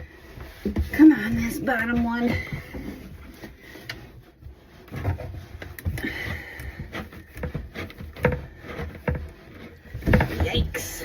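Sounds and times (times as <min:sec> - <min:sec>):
hands and tools on plastic drain trap: 0:00.0 - 0:11.0.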